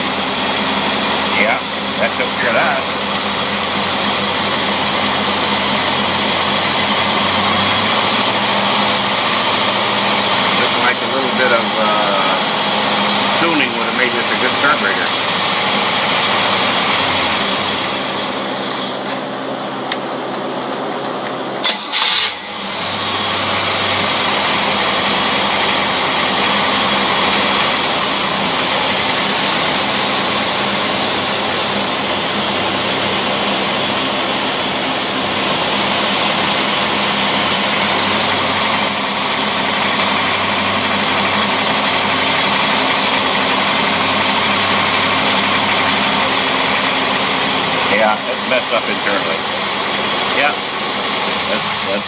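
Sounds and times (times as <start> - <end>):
boat engine running: 0.0 - 20.6, 22.4 - 52.0.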